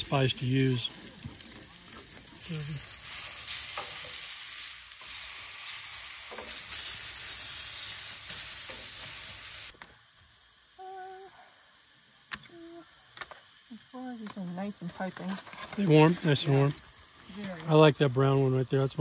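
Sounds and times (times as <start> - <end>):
zucchini sizzling in frying pan: 0.0 - 19.0.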